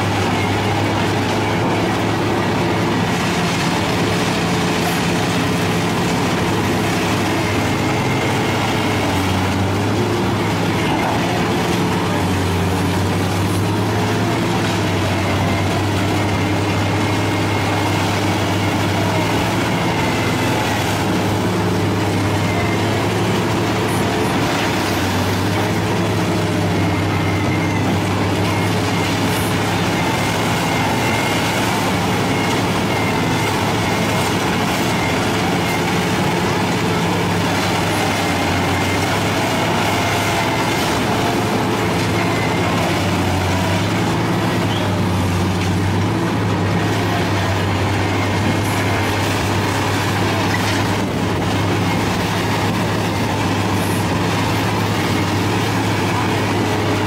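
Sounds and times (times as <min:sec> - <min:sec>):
shredder shredding scrap metal: 0:00.0 - 0:57.0.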